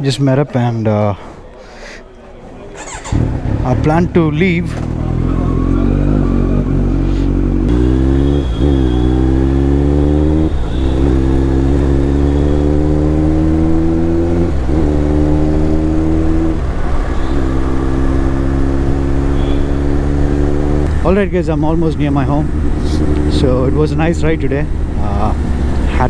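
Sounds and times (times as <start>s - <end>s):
motorcycle engine accelerating: 2.8s - 26.0s.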